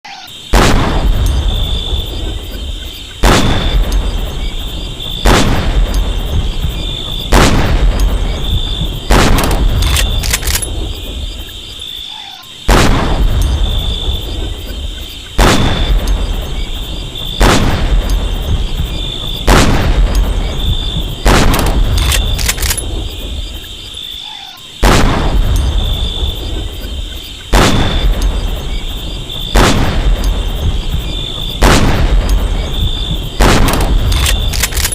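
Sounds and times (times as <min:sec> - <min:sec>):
rifle shots with echo: 0:00.5 - 0:11.4, 0:12.7 - 0:23.6, 0:24.8 - 0:26.7, 0:27.5 - 0:34.9.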